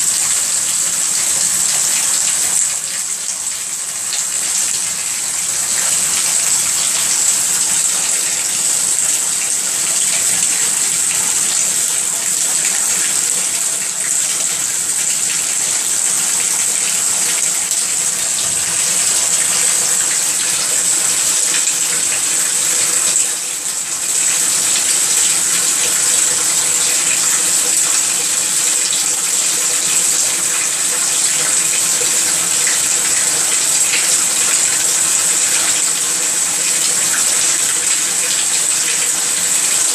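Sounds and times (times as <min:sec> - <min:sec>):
tap water running into bath: 0:00.0 - 0:39.9.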